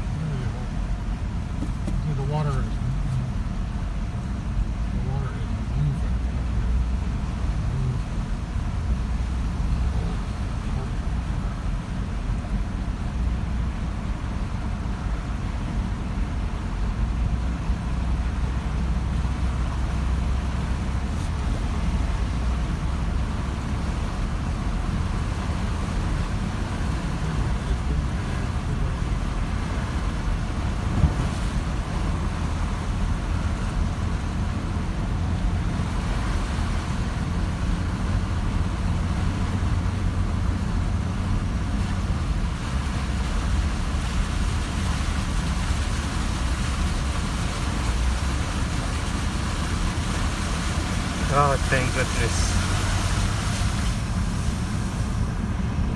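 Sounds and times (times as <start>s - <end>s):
vehicle engine and road rumble: 0.0s - 55.9s
water washing around wheels: 0.0s - 55.9s.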